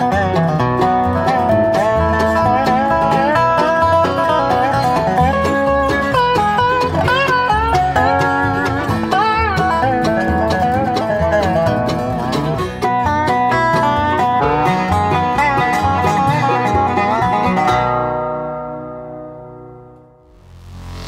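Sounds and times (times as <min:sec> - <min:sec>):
bluegrass banjo and guitar music: 0:00.0 - 0:21.0.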